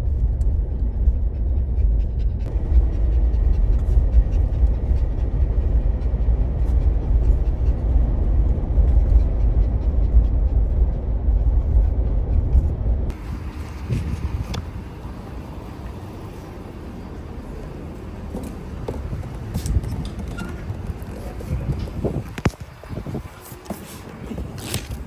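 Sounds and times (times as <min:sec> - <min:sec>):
car engine rumble: 0:00.0 - 0:25.0
road noise inside car: 0:00.0 - 0:25.0.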